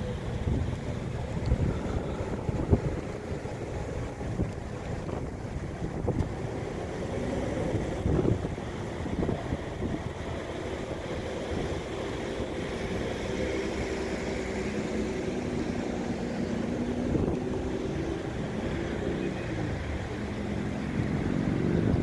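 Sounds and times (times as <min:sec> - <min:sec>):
car engines at low speed: 0:00.0 - 0:22.0.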